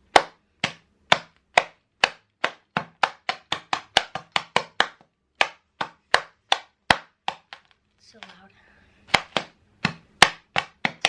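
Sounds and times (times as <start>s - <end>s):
rolling pin whacking candy bag: 0.0s - 8.4s, 9.1s - 11.0s.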